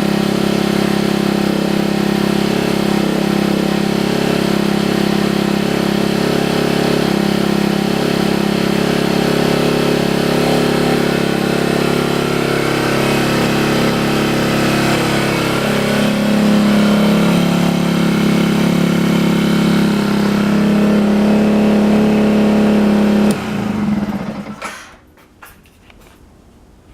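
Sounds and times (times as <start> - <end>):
motorcycle engine idling: 0.0 - 24.6.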